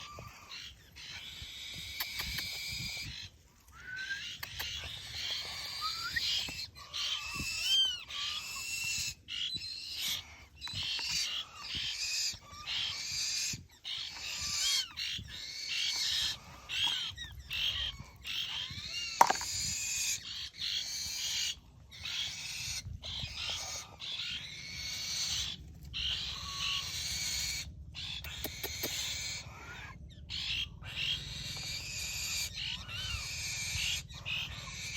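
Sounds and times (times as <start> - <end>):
birds chirping and whistling: 0.0 - 34.9.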